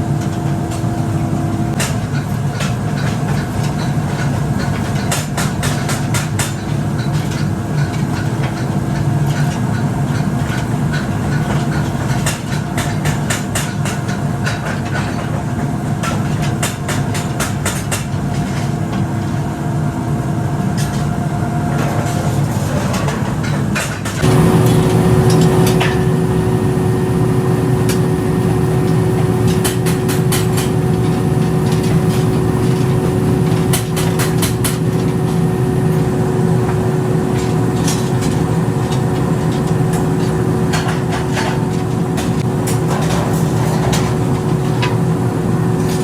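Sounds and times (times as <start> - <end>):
workshop machinery humming: 0.0 - 46.0.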